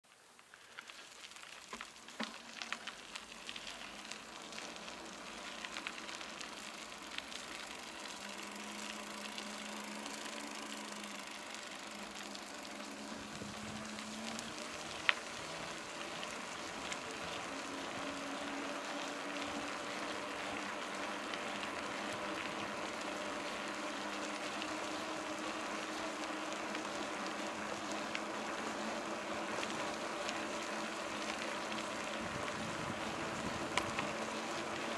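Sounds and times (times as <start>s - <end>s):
bicycle tyres rolling on wet asphalt: 0.0s - 34.9s
bike clicks: 0.1s - 34.9s.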